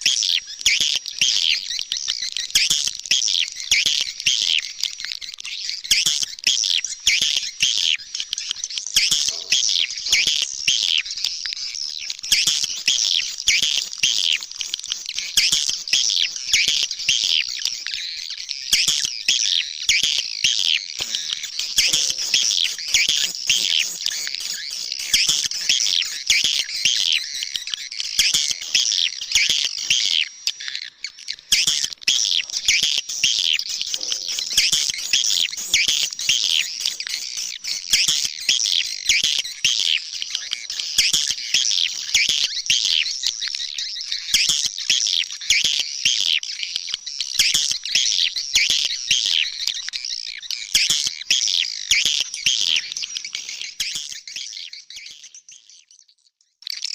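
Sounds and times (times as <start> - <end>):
swiftlets chirping and twittering: 0.0 - 56.0.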